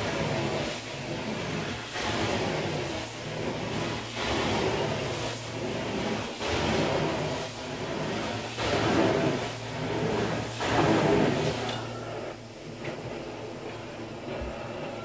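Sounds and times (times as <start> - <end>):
extraction wand sucking water: 0.0 - 12.3.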